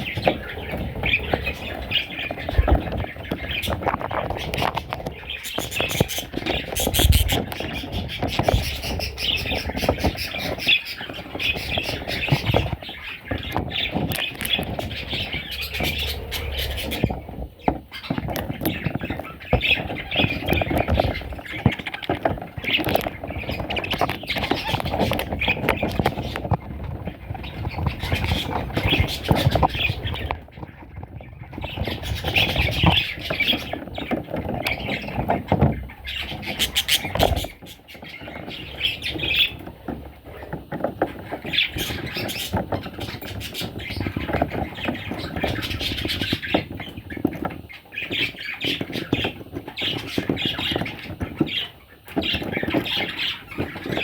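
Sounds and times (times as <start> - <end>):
parrots chattering and squawking: 0.0 - 54.0.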